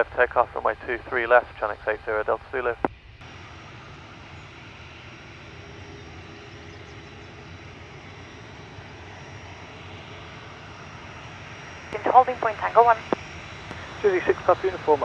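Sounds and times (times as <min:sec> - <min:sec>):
distant jet engines running: 0:00.0 - 0:15.0.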